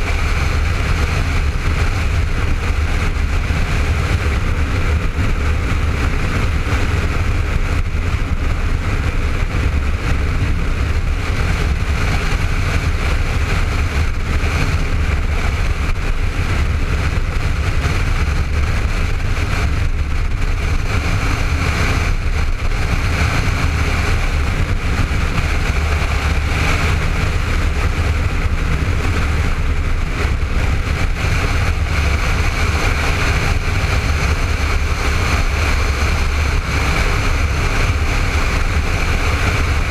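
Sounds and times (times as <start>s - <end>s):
motorcycle engine cruising: 0.0s - 39.9s
wind rushing on microphone: 0.0s - 39.9s.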